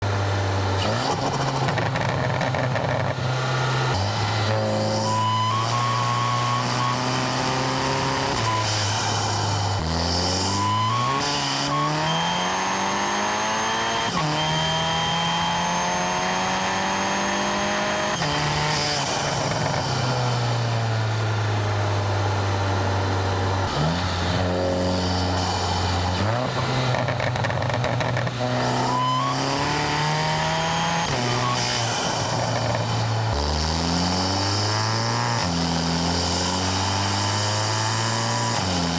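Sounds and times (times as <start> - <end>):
high turbo whine: 0.1 - 38.9
car engine revving: 0.2 - 38.9.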